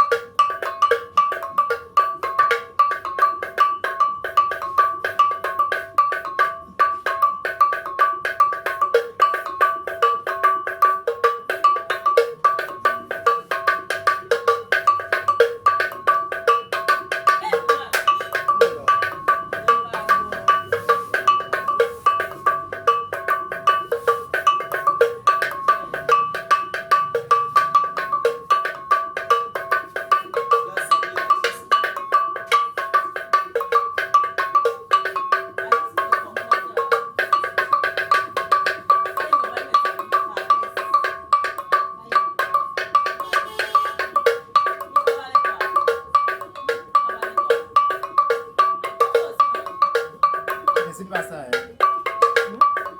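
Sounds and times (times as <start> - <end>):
metal bells struck with stick: 0.0 - 52.9.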